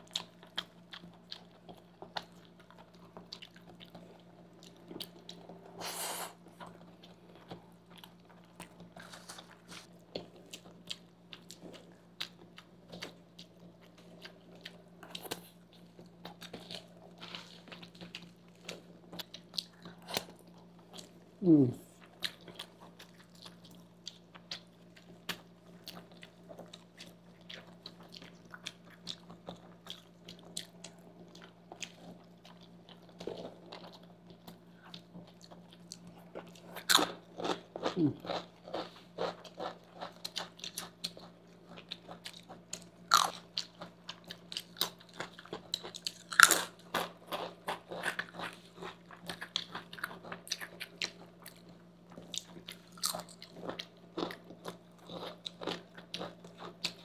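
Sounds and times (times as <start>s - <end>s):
faint low hum: 0.0s - 57.0s
people chewing pasta: 0.0s - 57.0s.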